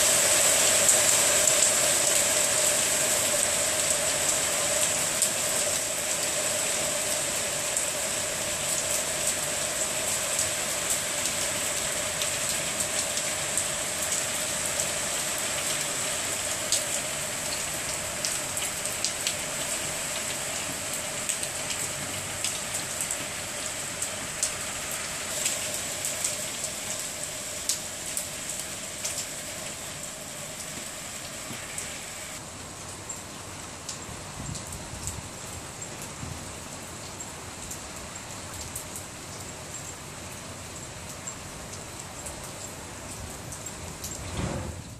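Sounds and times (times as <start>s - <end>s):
heavy rain pouring: 0.0s - 44.9s
raindrops ticking on hard surfaces: 0.0s - 44.9s.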